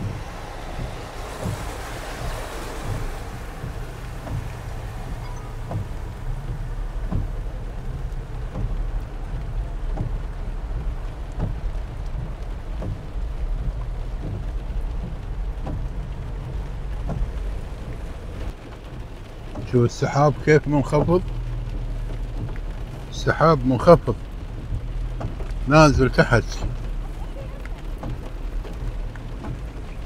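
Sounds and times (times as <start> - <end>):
car humming: 0.0 - 30.0
raindrops tapping on car: 0.0 - 30.0.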